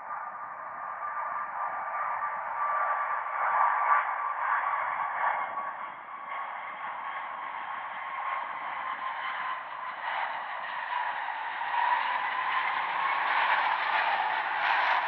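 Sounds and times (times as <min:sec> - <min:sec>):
jet engine rush and whine: 0:00.6 - 0:15.0.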